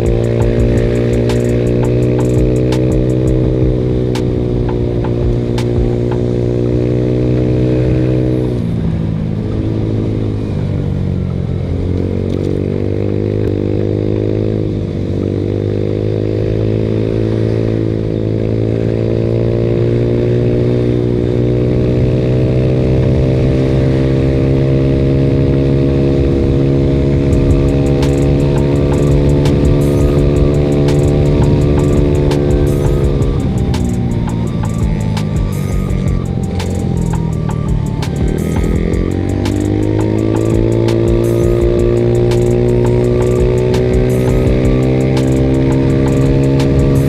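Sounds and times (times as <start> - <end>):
scooter engine running: 0.0 - 47.0.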